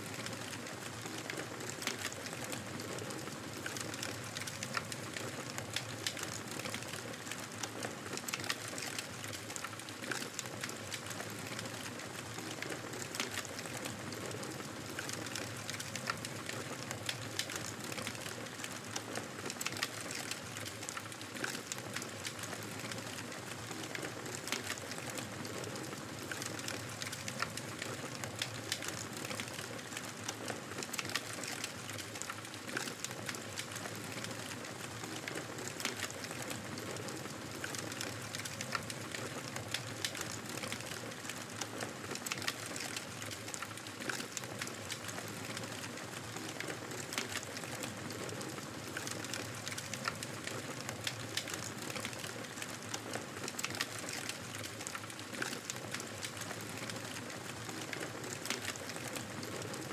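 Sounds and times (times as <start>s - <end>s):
wood fire crackling: 0.1s - 59.9s.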